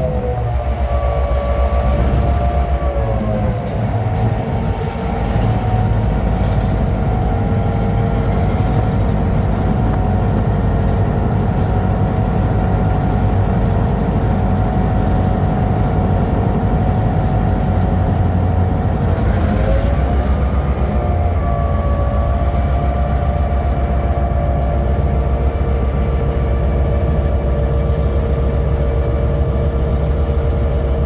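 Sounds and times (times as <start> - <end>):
diesel locomotive engine rumbling: 0.0 - 31.0.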